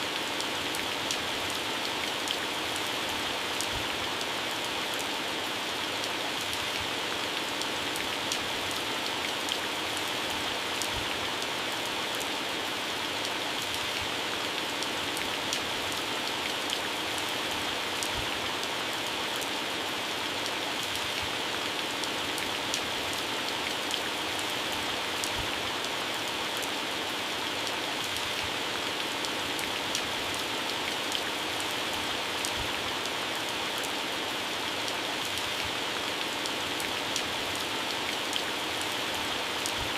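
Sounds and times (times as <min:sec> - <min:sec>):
heavy rain on plants: 0:00.0 - 0:39.9.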